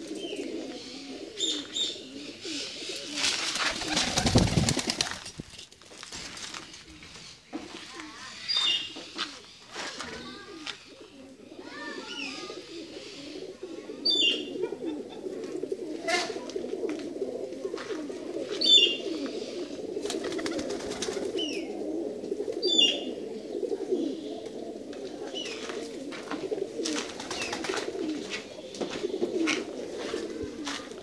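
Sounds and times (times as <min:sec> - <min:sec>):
pigeons cooing: 0:00.0 - 0:05.3, 0:06.5 - 0:31.0.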